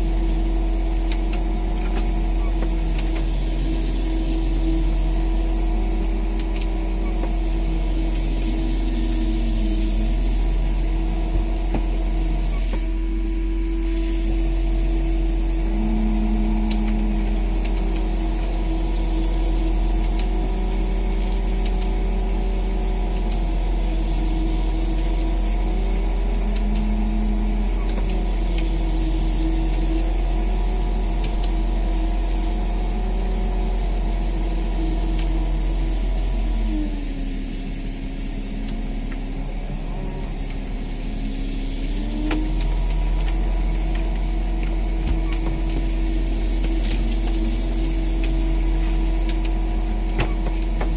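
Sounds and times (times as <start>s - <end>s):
boat engine and line hauler running: 0.0s - 50.9s.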